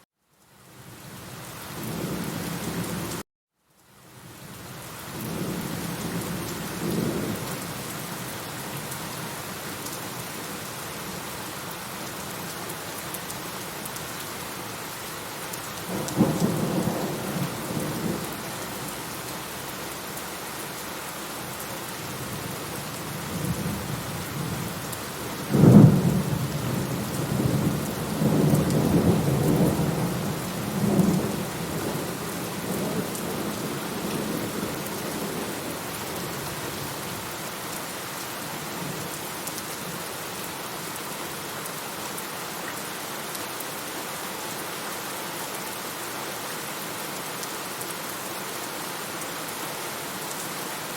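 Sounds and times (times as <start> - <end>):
steady rain falling: 0.2 - 50.9.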